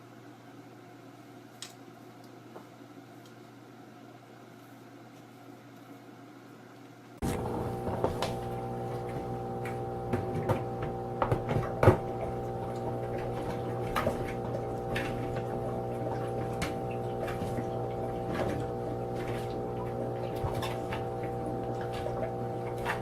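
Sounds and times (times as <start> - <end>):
steady multi-tone hum: 0.0 - 23.0.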